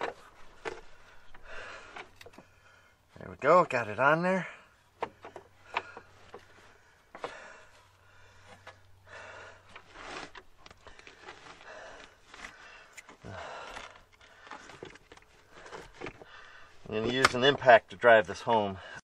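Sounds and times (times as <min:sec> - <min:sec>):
heavy breathing: 0:00.2 - 0:03.1, 0:04.4 - 0:16.9.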